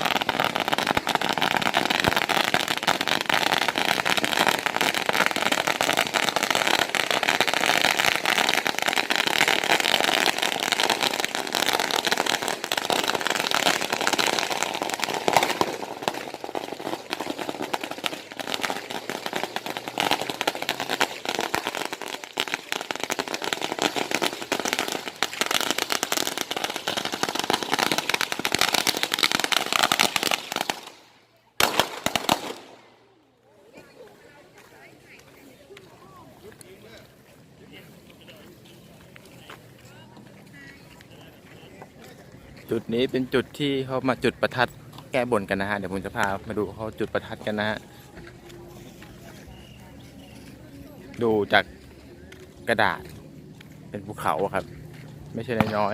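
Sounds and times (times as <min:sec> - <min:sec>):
firecrackers crackling: 0:00.0 - 0:55.9.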